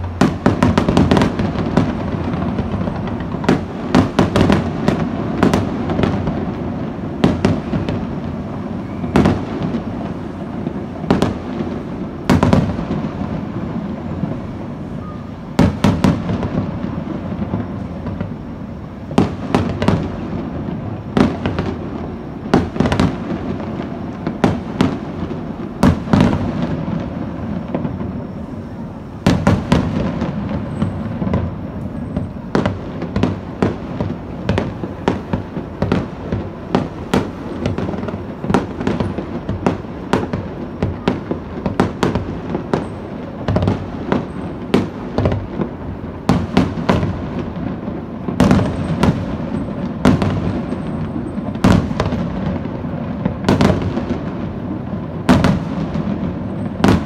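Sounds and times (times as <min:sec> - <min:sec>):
low din of distant bangs: 0:00.0 - 0:57.0.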